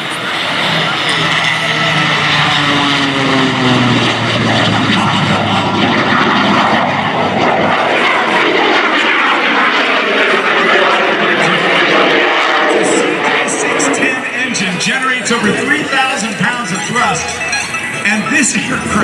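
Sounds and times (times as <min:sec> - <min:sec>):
propeller plane flying past: 0:00.0 - 0:19.0.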